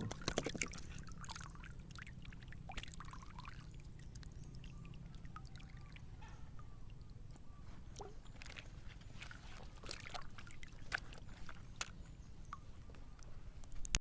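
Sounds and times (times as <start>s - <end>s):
small splashes and drips: 0.0s - 13.9s
steady low hum: 0.0s - 14.0s
water sloshing and trickling: 0.0s - 14.0s.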